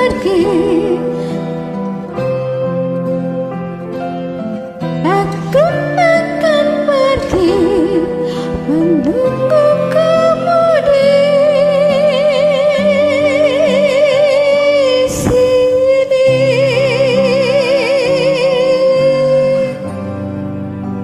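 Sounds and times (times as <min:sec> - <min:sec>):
karaoke backing track: 0:00.0 - 0:21.0.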